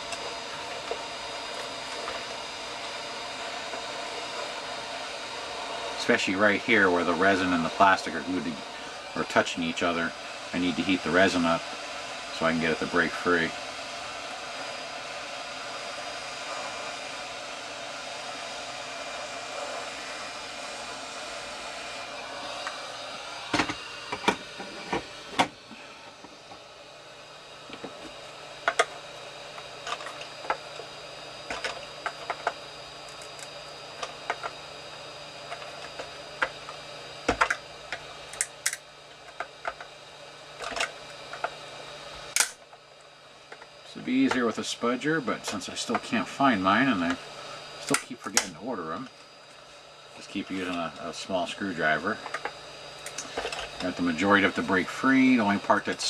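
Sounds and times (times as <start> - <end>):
heat gun blowing: 0.0 - 56.0.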